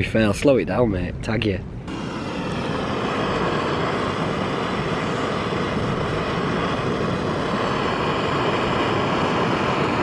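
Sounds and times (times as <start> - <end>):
gas stove burner rushing: 1.9 - 10.0.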